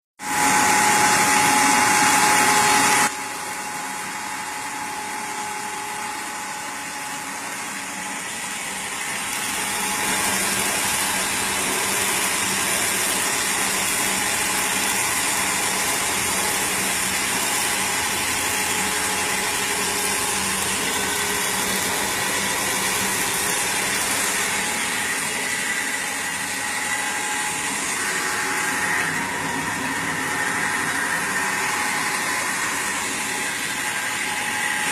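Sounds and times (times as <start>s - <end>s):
pellet machine running: 0.2s - 34.9s
steady machine whine: 0.2s - 34.9s.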